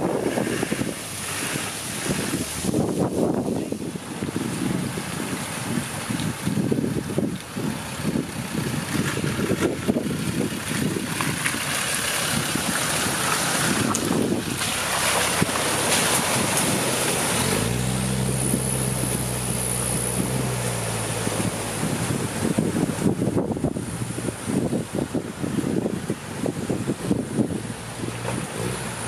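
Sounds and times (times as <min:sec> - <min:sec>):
engine hum: 0:00.0 - 0:29.0
rushing water: 0:00.0 - 0:29.0
wind gusting on microphone: 0:00.0 - 0:29.0.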